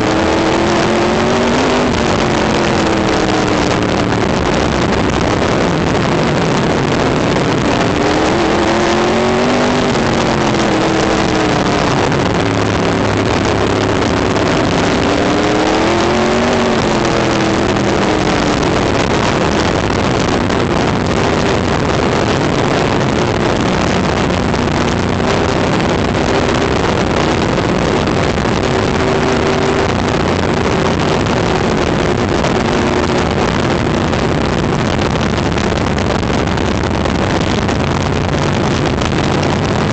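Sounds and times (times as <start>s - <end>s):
race car engine running hard: 0.0s - 39.9s
wind rush over microphone: 0.0s - 39.9s.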